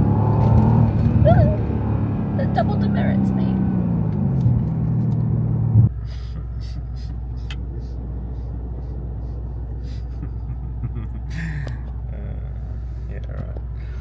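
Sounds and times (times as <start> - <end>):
car engine idling: 1.0 - 14.0.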